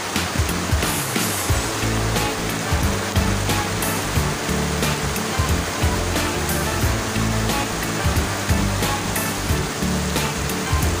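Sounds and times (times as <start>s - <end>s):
heavy rain pouring: 0.0s - 11.0s
music with bass and beat: 0.0s - 11.0s.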